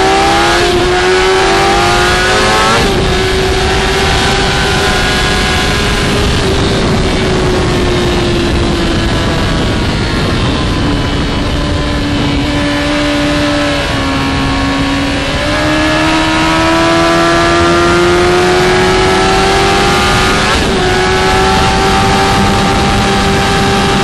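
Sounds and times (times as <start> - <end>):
motorcycle engine at high revs: 0.0 - 24.0
wind noise on microphone: 0.0 - 24.0.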